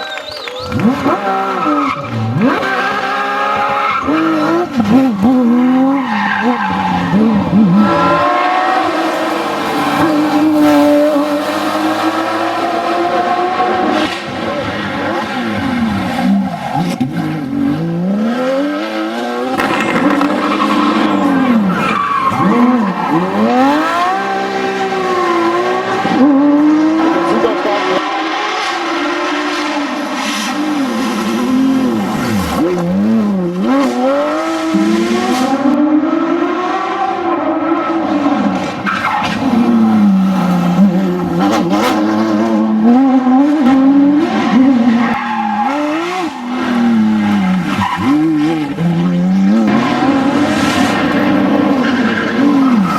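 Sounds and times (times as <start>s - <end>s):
car engine revving: 0.6s - 52.9s.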